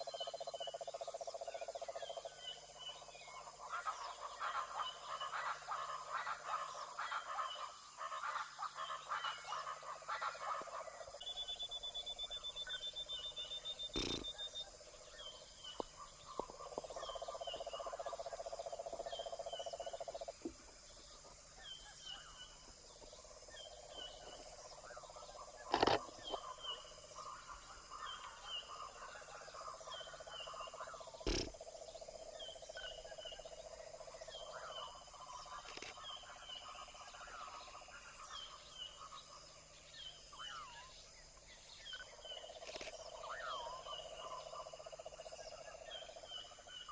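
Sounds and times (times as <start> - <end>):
frog insect and bird chirps: 0.0 - 46.9
trilling insect hum: 7.0 - 46.9.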